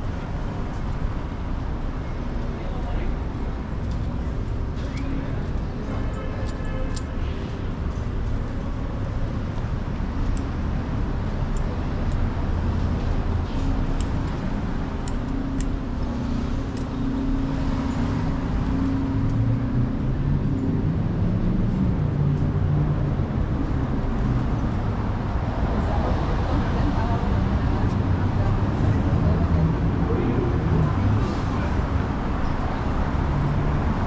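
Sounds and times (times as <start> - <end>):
traffic rumble: 0.0 - 34.0.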